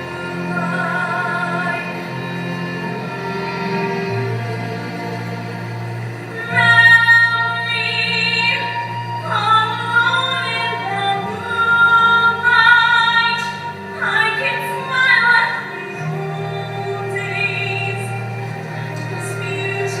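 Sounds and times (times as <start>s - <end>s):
low accompaniment chords: 0.0s - 20.0s.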